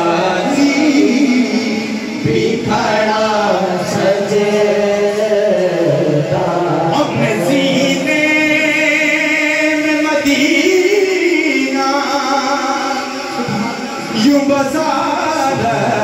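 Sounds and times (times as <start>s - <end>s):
men singing devotional song: 0.0s - 16.0s.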